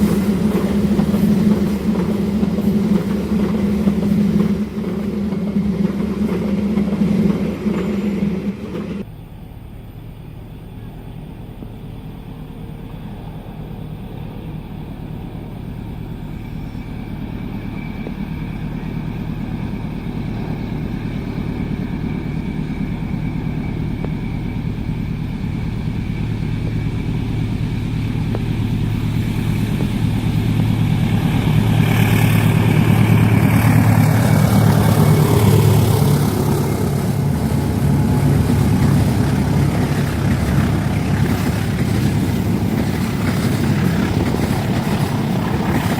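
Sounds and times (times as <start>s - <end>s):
diesel locomotive engine hum: 0.0s - 45.9s
train wheels on rails: 0.0s - 45.9s.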